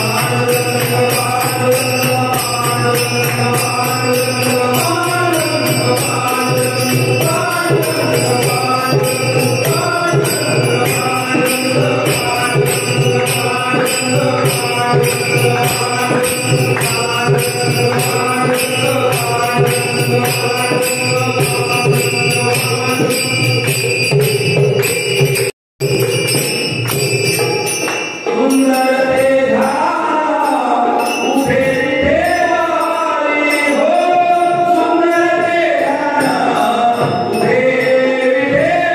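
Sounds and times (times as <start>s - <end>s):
steady jingling beat: 0.0s - 38.9s.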